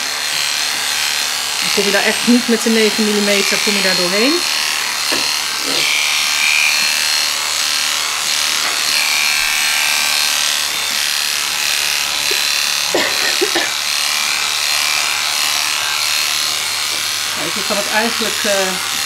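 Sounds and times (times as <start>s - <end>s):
electric clipper buzzing: 0.0s - 19.0s.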